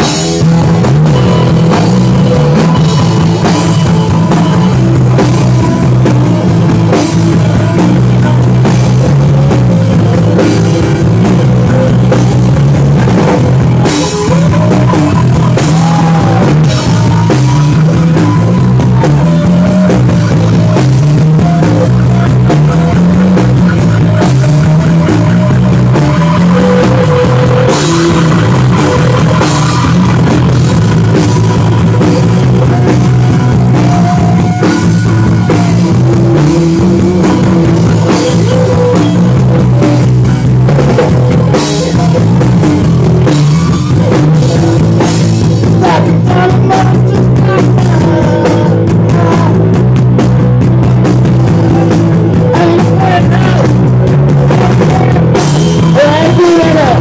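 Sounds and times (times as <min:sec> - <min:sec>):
bass line stepping up and down: 0:00.0 - 0:57.0
drum kit: 0:00.0 - 0:57.0
electric guitar: 0:00.0 - 0:57.0.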